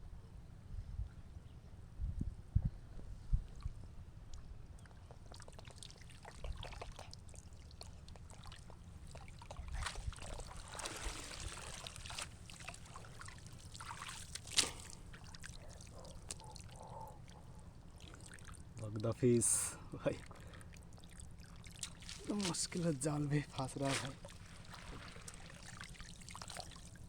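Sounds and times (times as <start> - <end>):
pond water splashing and dripping: 4.8 - 27.0.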